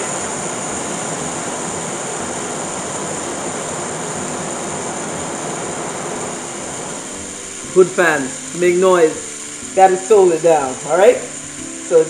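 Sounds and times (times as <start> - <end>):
steak sizzling in hot oil: 0.0 - 12.0.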